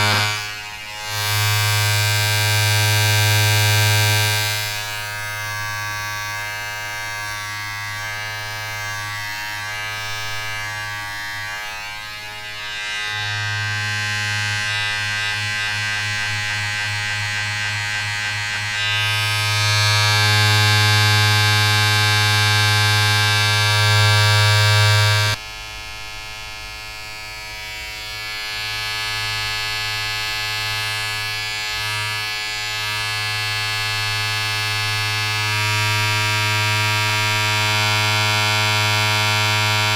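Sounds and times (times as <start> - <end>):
electric appliance buzzing: 0.0 - 39.9.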